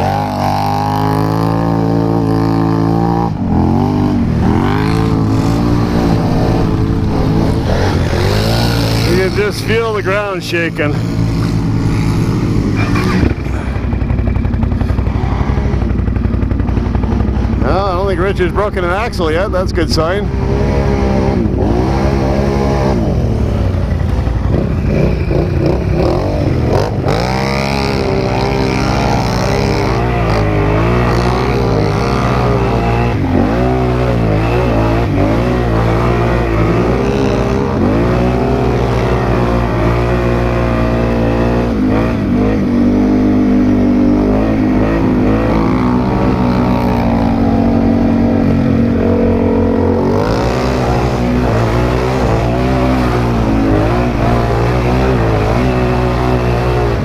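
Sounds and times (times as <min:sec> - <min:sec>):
atv engine revving: 0:00.0 - 0:57.0
vehicle churning through mud: 0:00.0 - 0:57.0.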